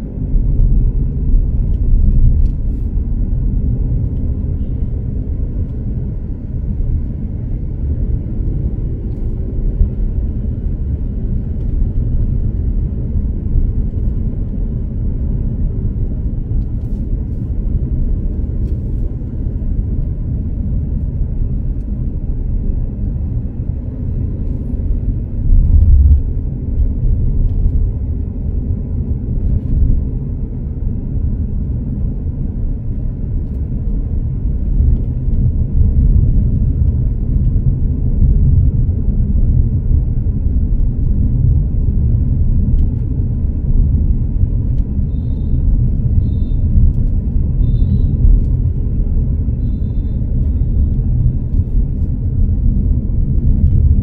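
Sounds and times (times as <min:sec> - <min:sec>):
vehicle driving along street: 0:00.0 - 0:54.0.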